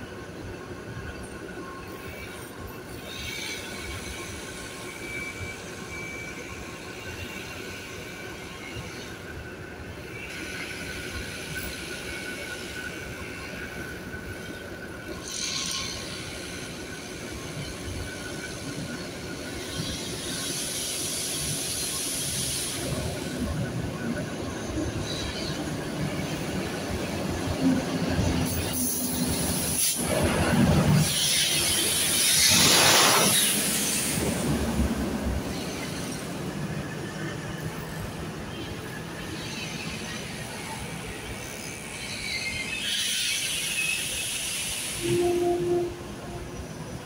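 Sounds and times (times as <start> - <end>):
high-pitched hiss and squeal: 0.2 - 47.0.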